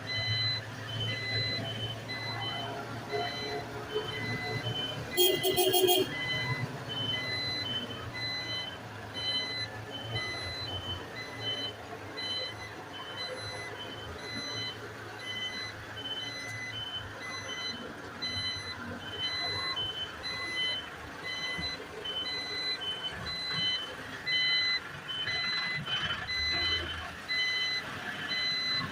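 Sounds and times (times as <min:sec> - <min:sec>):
truck engine running: 0:00.0 - 0:28.9
reversing alarm beeps: 0:00.1 - 0:28.9.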